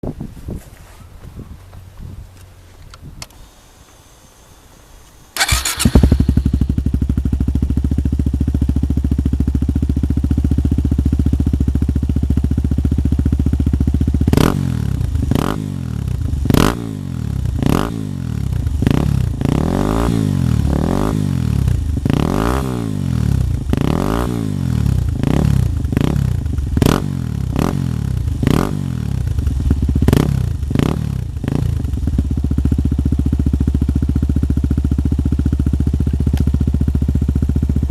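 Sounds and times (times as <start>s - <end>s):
loud motorcycle engine revving: 5.4s - 36.0s.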